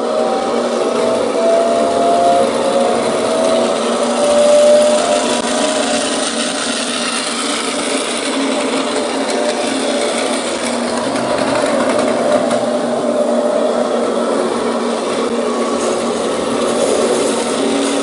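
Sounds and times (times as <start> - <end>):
toy train motor whining: 0.0 - 18.0
plastic wheels rattling on track: 0.3 - 13.4, 14.7 - 18.0.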